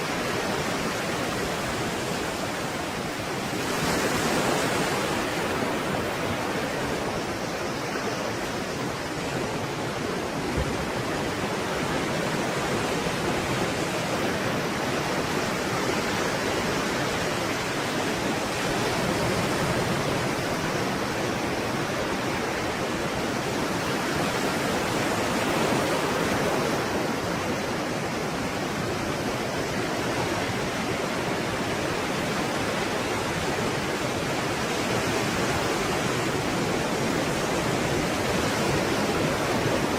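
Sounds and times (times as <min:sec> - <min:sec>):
stormy sea waves breaking: 0:00.0 - 0:39.9.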